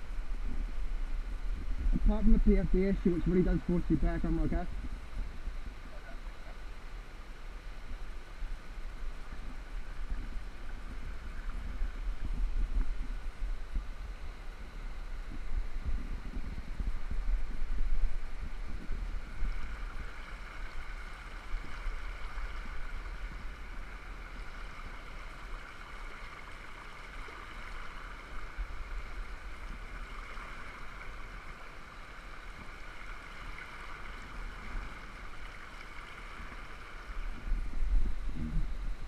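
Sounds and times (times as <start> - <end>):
wind rumbling on microphone: 0.0 - 39.0.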